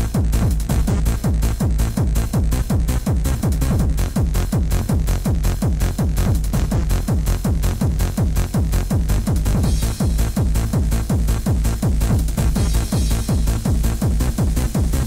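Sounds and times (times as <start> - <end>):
techno music: 0.0 - 15.0.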